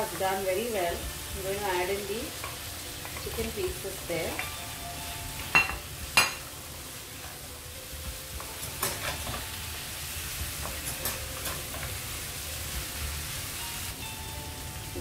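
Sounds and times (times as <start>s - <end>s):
low sizzle: 0.0s - 15.0s.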